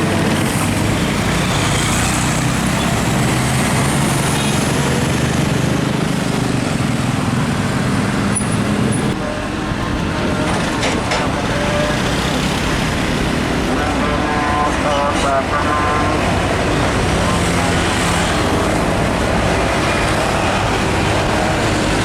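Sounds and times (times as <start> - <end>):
diesel trucks passing: 0.0 - 22.0.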